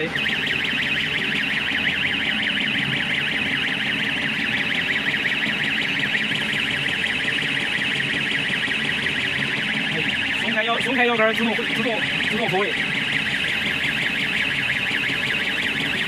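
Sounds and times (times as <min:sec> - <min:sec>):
warbling electronic warning alarm: 0:00.0 - 0:16.0.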